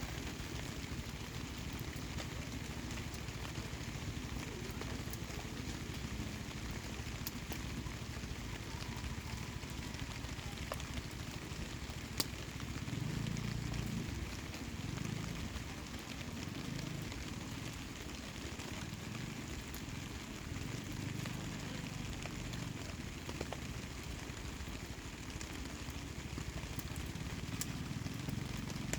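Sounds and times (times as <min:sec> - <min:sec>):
campfire crackling: 0:00.0 - 0:28.9
rain pattering: 0:00.0 - 0:28.9.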